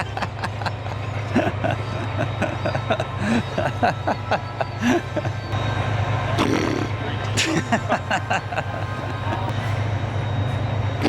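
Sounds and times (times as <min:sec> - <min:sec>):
people chuckling: 0:00.0 - 0:05.6, 0:06.2 - 0:09.6
indistinct voices: 0:00.0 - 0:10.3.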